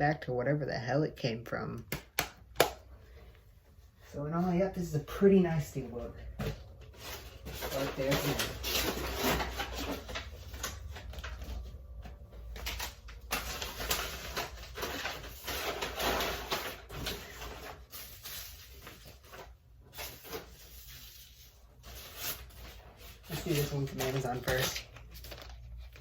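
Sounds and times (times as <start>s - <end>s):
packaging rustling and scraping: 5.0s - 26.0s.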